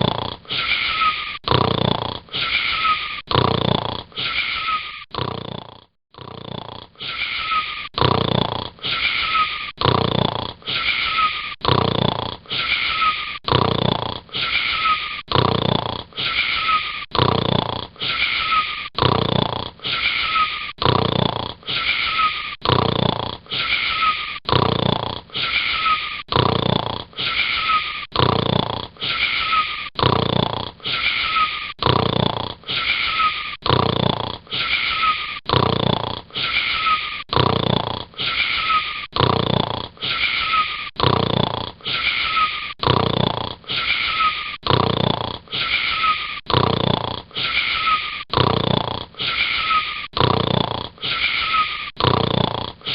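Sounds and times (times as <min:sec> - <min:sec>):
wheezy whistling snoring: 0:00.0 - 0:52.9.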